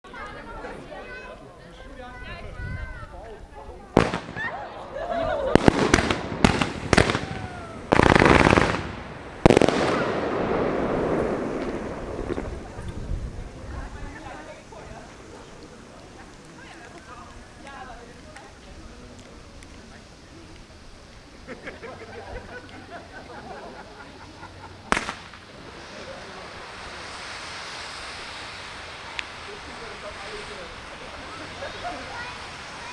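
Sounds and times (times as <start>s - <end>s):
indistinct voices of onlookers: 0.0s - 8.0s, 9.2s - 32.9s
fireworks crackling: 0.1s - 32.9s
fireworks bangs: 3.8s - 32.9s
hiss: 5.6s - 32.9s.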